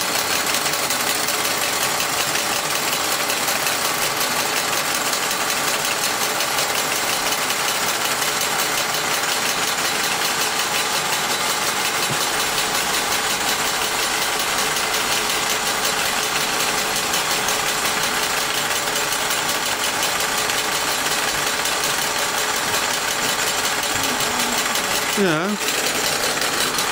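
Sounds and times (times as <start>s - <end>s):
rapid clatter of toy workshop: 0.0s - 26.9s.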